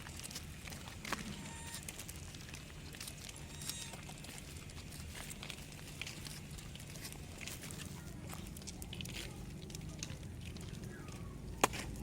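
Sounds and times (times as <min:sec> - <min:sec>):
small clicks and rustles: 0:00.0 - 0:12.0.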